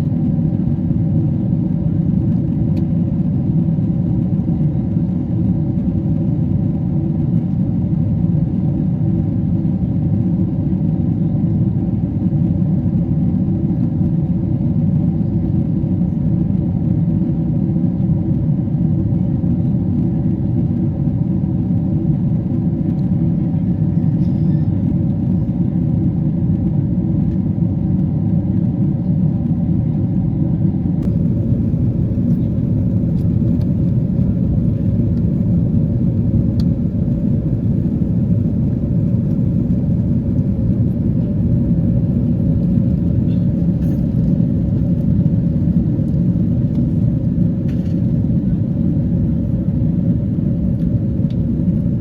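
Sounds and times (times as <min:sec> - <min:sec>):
airliner cabin engine drone: 0:00.0 - 0:52.0.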